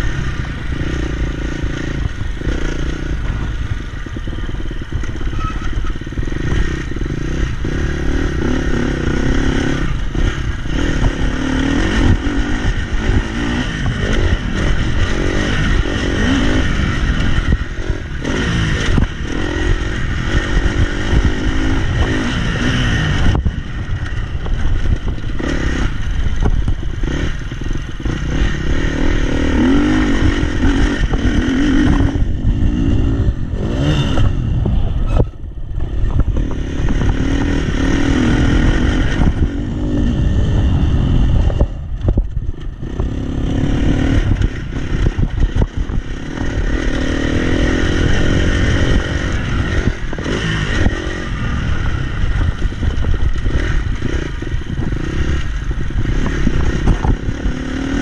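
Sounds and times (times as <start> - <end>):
dirt bike engine revving: 0.0 - 58.0
wind rumble on microphone: 0.0 - 58.0.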